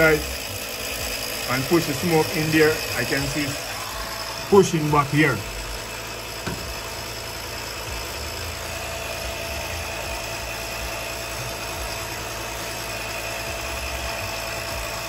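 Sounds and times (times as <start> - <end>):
motor humming with low rumble: 0.0 - 15.0.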